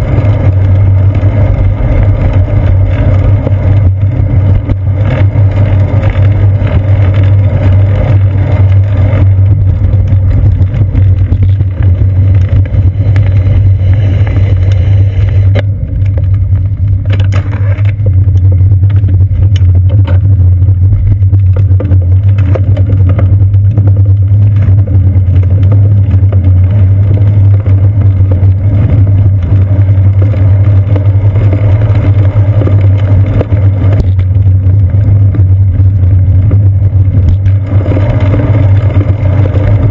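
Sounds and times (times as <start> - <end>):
wind and road rumble: 0.0 - 39.9.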